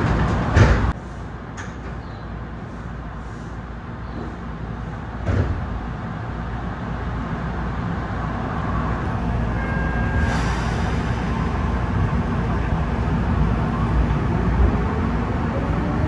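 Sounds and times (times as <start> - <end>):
electric train rumble: 0.0 - 16.0.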